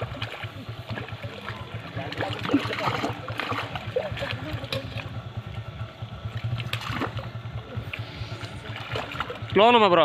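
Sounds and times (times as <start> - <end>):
sharp splashes: 0.0 - 10.0
steady low hum: 0.0 - 10.0
water sloshing and splashing: 0.0 - 10.0.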